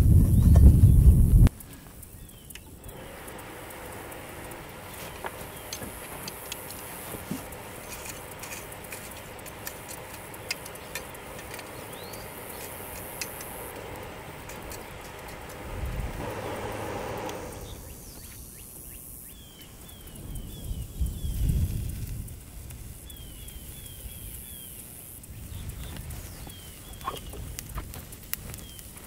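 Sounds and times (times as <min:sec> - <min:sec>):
charcoal crackling and popping: 0:00.0 - 0:18.5, 0:19.1 - 0:29.0
steady hiss: 0:00.0 - 0:29.0.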